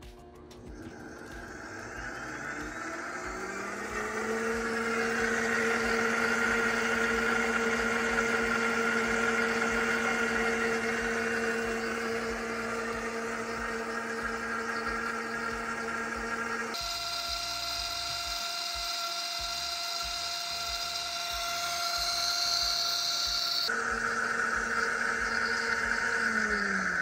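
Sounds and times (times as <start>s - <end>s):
appliance motor whirring: 0.0s - 27.0s.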